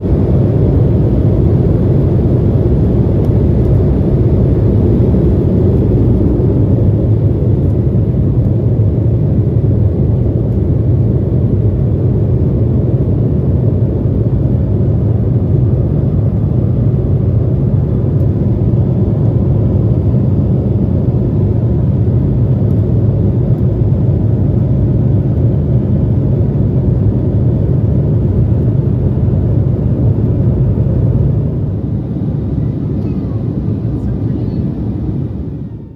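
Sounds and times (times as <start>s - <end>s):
jet engines rumbling in cabin: 0.0s - 35.9s.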